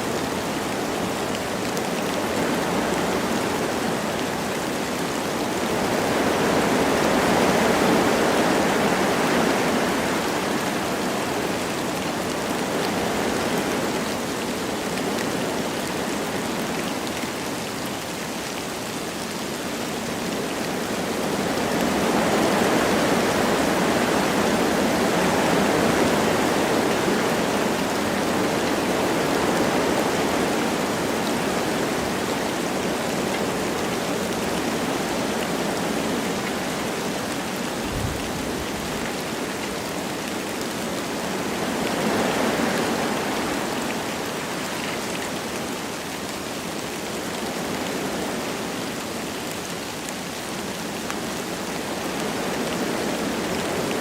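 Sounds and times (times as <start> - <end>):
light rain falling: 0.0 - 54.0
wind rushing through trees: 0.0 - 54.0.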